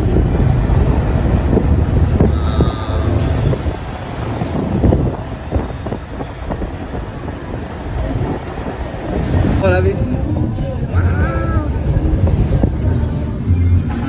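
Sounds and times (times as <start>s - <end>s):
wind buffeting microphone: 0.0s - 13.8s
vehicle engine and road rumble: 0.0s - 14.0s.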